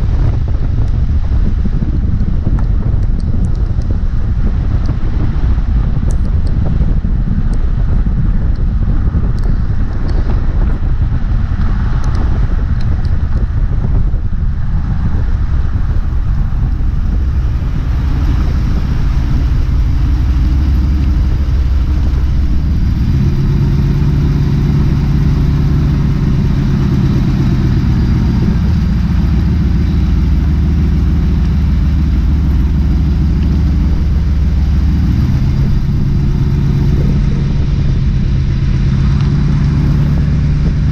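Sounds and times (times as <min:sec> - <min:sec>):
low steady drone: 0:00.0 - 0:40.9
van engine and road rumble: 0:00.0 - 0:40.9.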